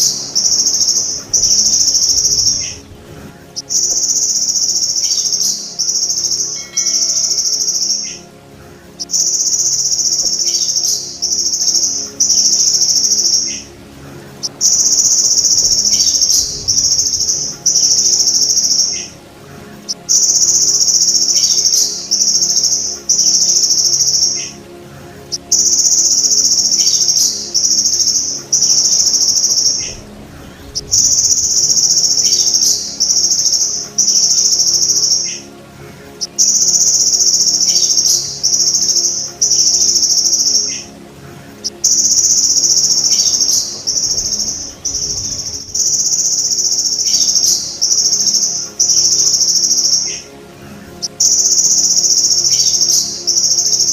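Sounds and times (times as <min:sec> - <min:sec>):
grasshopper buzzing trills: 0:00.0 - 0:53.9.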